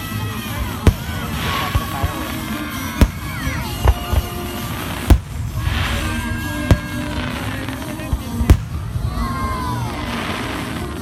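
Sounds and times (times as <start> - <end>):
distant fireworks booms: 0.0 - 11.0
fireworks crackling: 0.0 - 11.0
music: 0.0 - 11.0.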